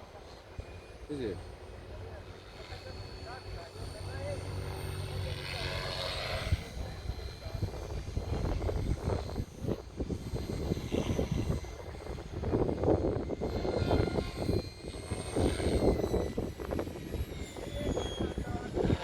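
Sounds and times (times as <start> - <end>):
model helicopter whine and rotor noise: 0.0 - 19.0.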